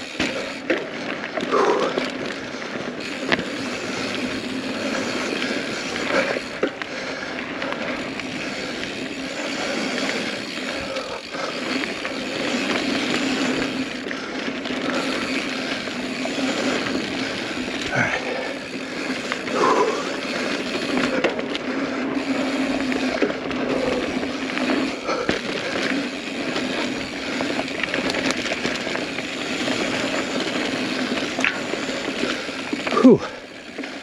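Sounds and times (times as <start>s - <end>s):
bike rattling: 0.0s - 34.0s
bike tyres rolling on dirt: 0.0s - 34.0s.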